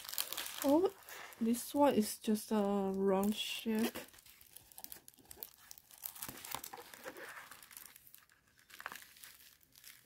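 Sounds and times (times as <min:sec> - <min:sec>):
canvas crinkling and rustling: 0:00.0 - 0:01.7, 0:02.8 - 0:10.0.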